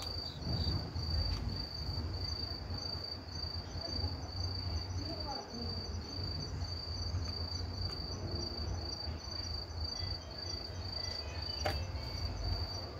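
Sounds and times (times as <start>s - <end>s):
crickets trilling: 0.0s - 12.9s.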